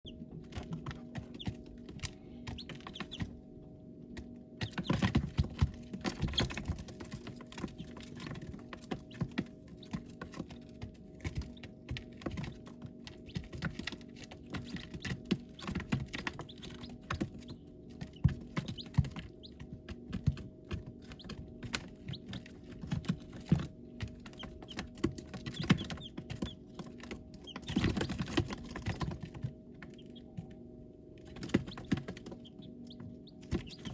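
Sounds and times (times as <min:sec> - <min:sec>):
chicks pecking and scratching: 0:00.1 - 0:33.9
steady low hum: 0:00.1 - 0:33.9.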